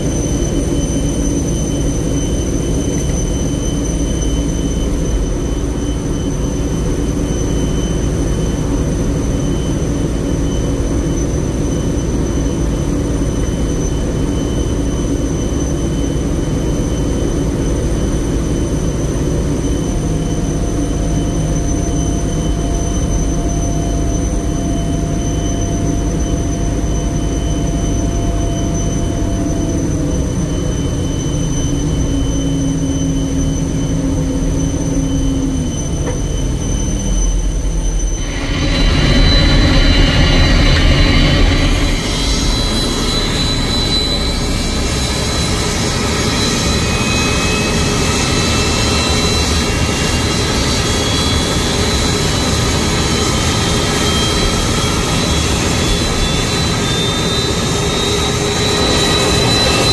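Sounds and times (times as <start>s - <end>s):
jet engine whine spooling up: 0.0s - 59.9s
jet engines humming: 0.0s - 59.9s.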